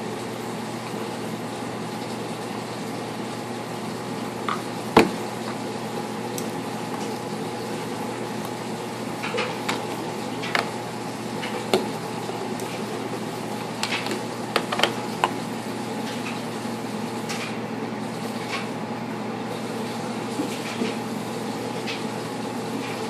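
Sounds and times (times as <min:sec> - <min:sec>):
washing machine hum: 0:00.0 - 0:23.0.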